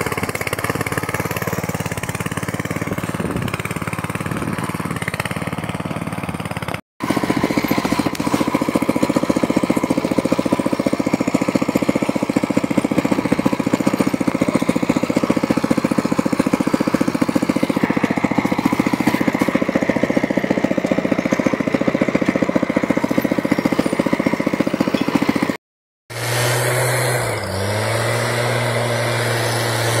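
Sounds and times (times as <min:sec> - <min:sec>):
tractor engine running: 0:00.0 - 0:30.0
two-stroke sprayer engine: 0:00.0 - 0:30.0.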